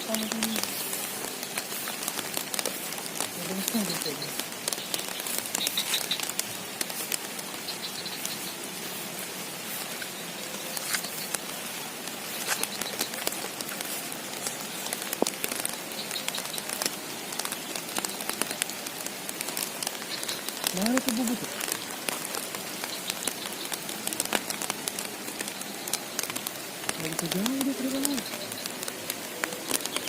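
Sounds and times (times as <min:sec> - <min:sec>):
raindrops pattering close by: 0:00.0 - 0:30.0
steady rain falling: 0:00.0 - 0:30.0.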